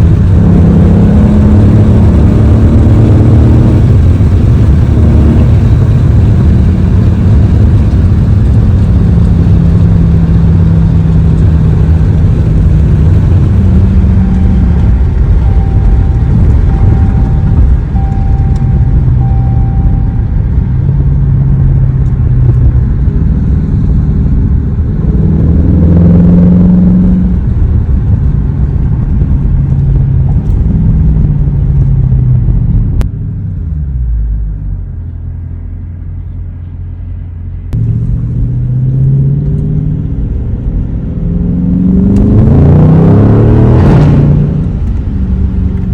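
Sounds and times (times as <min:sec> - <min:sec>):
car engine rumbling: 0:00.0 - 0:45.9.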